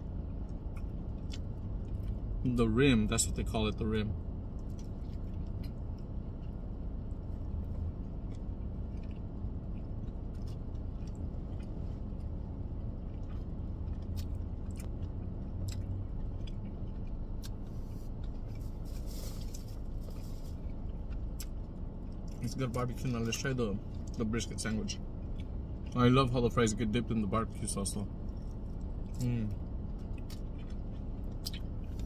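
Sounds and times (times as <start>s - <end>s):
steady low hum: 0.0s - 32.0s
person chewing meat: 0.1s - 2.4s, 4.4s - 23.1s, 25.0s - 26.0s, 28.1s - 32.0s.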